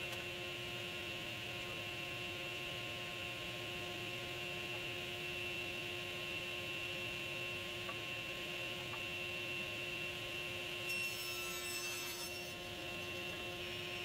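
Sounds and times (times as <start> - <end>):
woodshop machinery humming and whining: 0.0 - 14.0.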